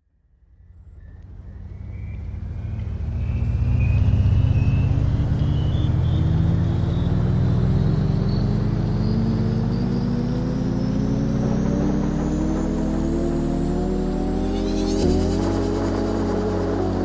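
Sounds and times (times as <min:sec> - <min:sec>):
vehicle engine accelerating: 0:00.4 - 0:17.0.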